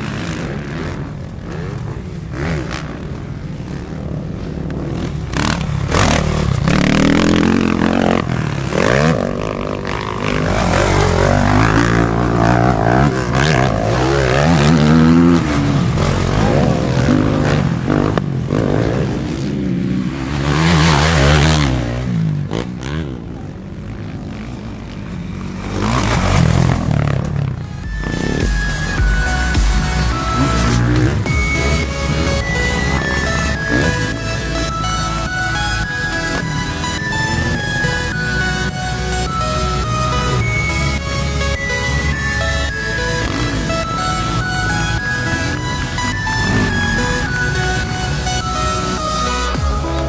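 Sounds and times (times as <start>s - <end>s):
motocross motorcycle engines revving: 0.0s - 50.0s.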